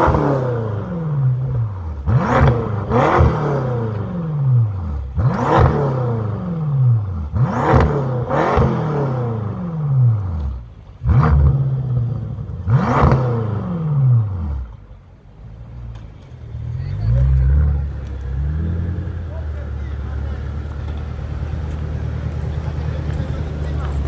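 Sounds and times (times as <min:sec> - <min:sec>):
car engine revving: 0:00.0 - 0:14.9, 0:15.7 - 0:24.0.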